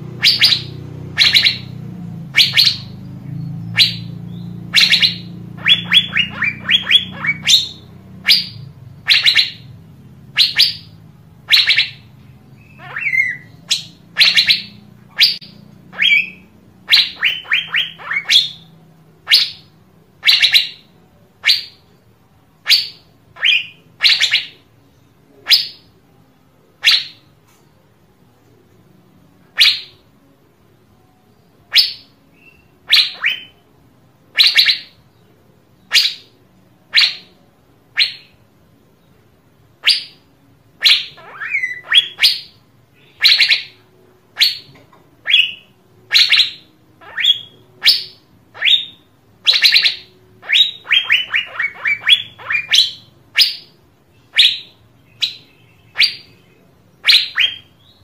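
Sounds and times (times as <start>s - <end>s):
bird calling with sharp notes: 0.0s - 26.0s, 26.7s - 27.6s, 29.4s - 30.4s, 31.0s - 33.7s, 34.3s - 58.0s.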